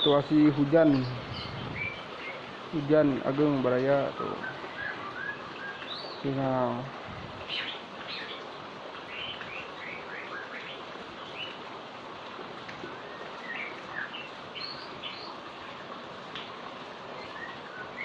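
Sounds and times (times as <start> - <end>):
small birds chirping: 0.0 - 11.7, 12.7 - 18.0
heavy rain falling: 0.0 - 18.0.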